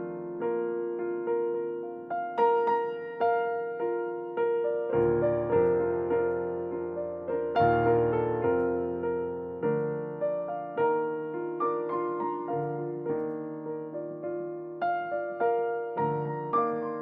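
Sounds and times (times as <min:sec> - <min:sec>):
gentle solo piano piece: 0:00.0 - 0:17.0.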